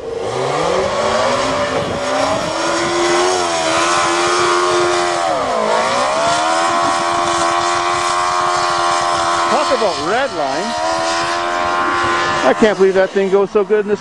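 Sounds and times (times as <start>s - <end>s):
motorcycle engine revving high: 0.0s - 14.0s.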